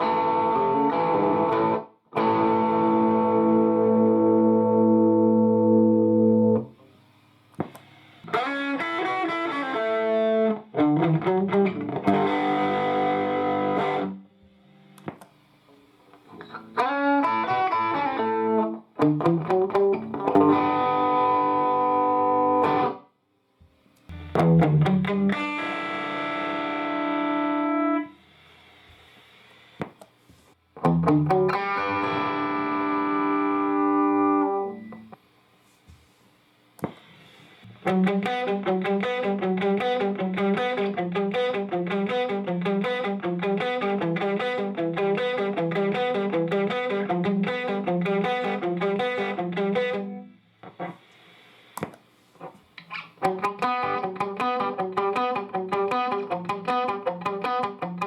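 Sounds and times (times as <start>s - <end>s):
electric guitar through amplifier: 0.0s - 35.2s, 36.8s - 58.0s.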